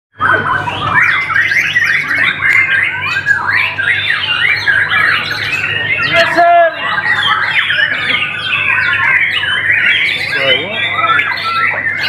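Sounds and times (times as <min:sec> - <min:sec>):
bird singing whistled phrases: 0:00.2 - 0:12.0.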